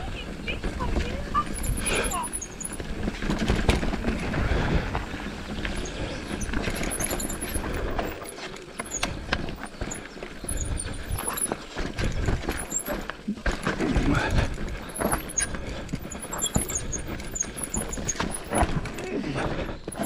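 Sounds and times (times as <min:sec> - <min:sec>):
bike knocking and rattling: 0:00.0 - 0:20.0
bike tyres rumbling on dirt: 0:00.0 - 0:20.0.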